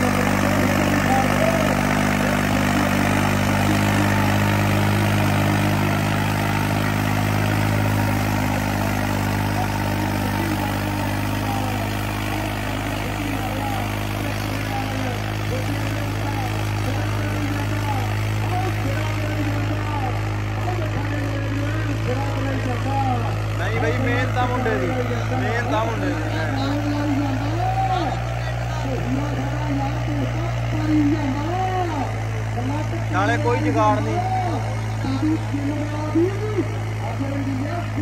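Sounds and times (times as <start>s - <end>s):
murmur of crowd voices: 0.0s - 38.0s
tractor engine running: 0.0s - 38.0s.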